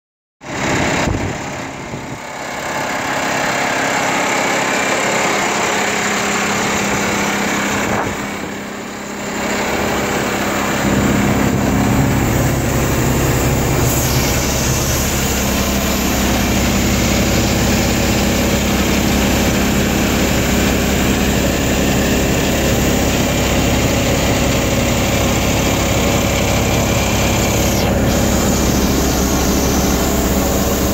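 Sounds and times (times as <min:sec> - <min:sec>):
diesel truck engine idling: 0:00.5 - 0:30.9.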